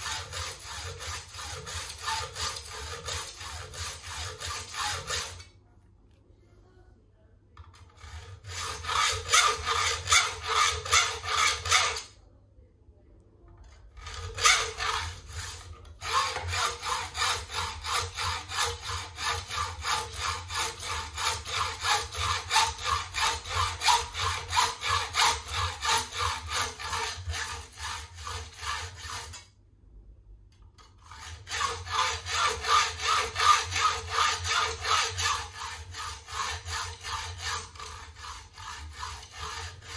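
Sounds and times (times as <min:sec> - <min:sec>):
hacksaw cutting metal: 0:00.0 - 0:05.5, 0:07.9 - 0:12.1, 0:14.0 - 0:29.5, 0:30.9 - 0:39.9.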